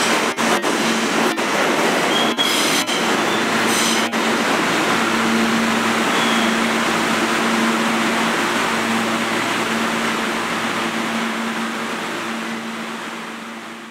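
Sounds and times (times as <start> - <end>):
steady hum: 0.0 - 13.9
subway train pulling away: 0.0 - 13.9.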